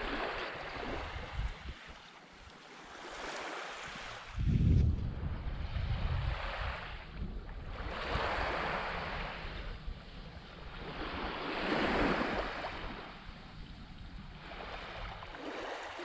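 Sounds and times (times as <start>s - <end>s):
wind rumble on microphone: 0.0s - 2.1s, 3.7s - 16.0s
small waves washing ashore: 0.0s - 16.0s.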